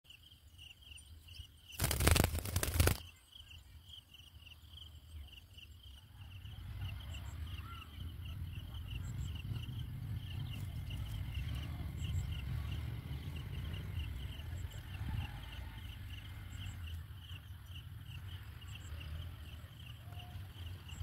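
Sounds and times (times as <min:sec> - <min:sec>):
insect chirping: 0:00.1 - 0:21.0.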